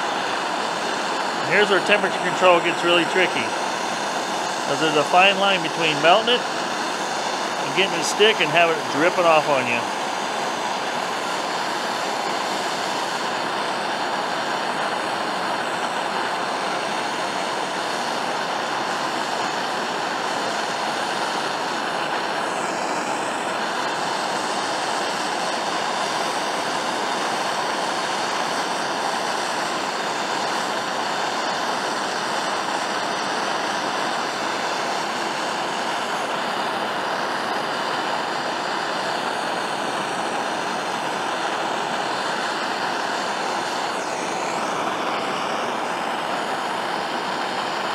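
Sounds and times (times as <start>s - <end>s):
gas torch flame hissing: 0.0s - 47.9s.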